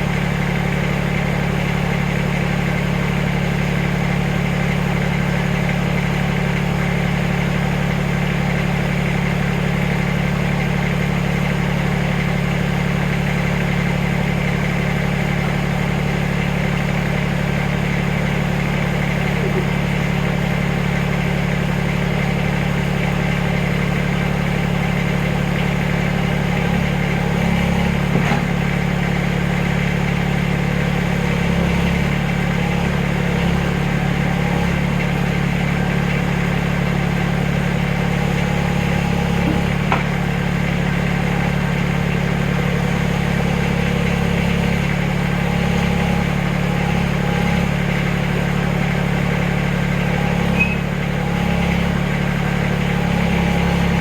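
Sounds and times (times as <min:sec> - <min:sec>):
backhoe engine running: 0:00.0 - 0:54.0.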